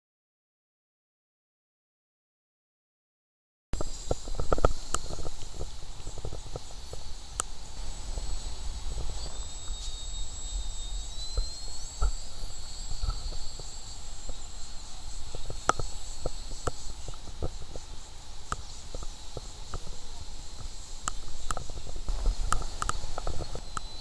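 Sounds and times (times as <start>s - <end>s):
wind buffeting microphone: 3.8s - 23.7s
thin high-pitched whine: 3.8s - 24.0s.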